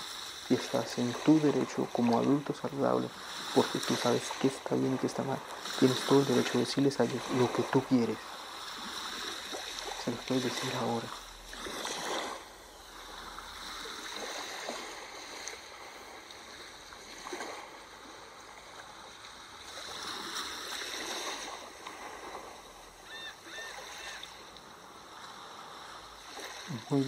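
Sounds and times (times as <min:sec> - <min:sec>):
sea waves washing in: 0:00.0 - 0:27.0.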